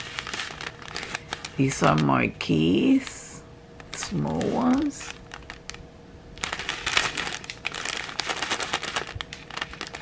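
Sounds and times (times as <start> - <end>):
plastic bag crinkling: 0.0 - 2.5, 3.8 - 10.0.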